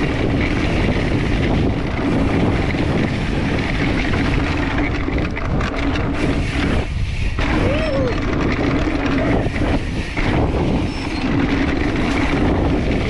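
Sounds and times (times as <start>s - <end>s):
bike rattling: 0.0s - 13.0s
bike tyres rumbling on dirt: 0.0s - 13.0s
wind on microphone: 0.0s - 13.0s.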